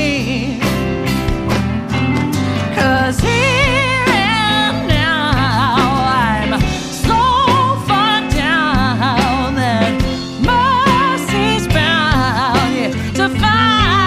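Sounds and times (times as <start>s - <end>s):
person singing with vibrato: 0.0s - 1.0s, 2.6s - 14.0s
instrumental backing music: 0.0s - 14.0s.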